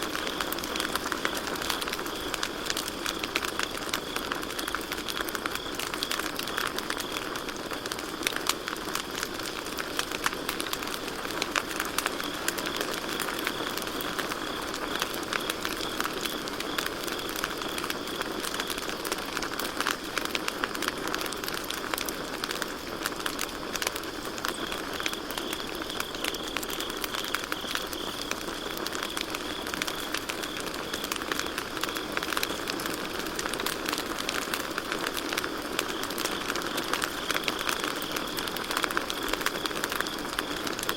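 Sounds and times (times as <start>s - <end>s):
campfire crackling and popping: 0.0s - 40.9s
crickets chirping: 0.0s - 40.9s.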